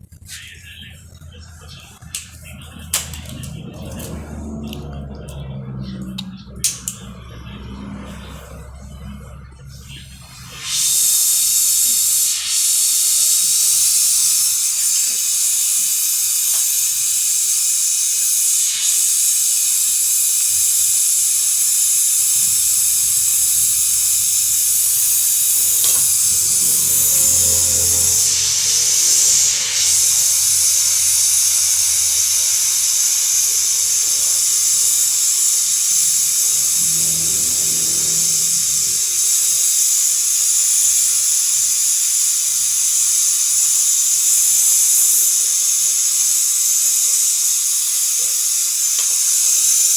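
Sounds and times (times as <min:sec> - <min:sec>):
pressurised gas hissing: 0:06.2 - 0:49.9.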